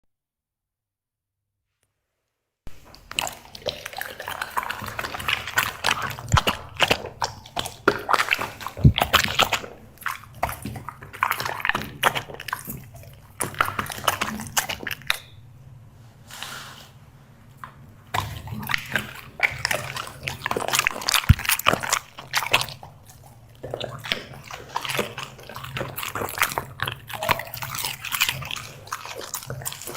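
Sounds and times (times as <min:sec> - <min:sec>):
dog chewing food: 0:02.7 - 0:15.4, 0:18.1 - 0:29.9.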